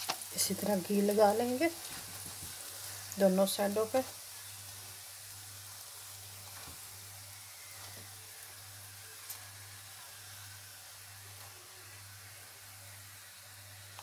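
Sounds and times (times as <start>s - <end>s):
bread sizzling in a pan: 0.0s - 14.0s.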